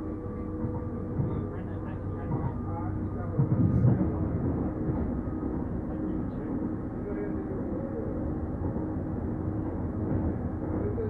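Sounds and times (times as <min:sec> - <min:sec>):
train running inside carriage: 0:00.0 - 0:11.0.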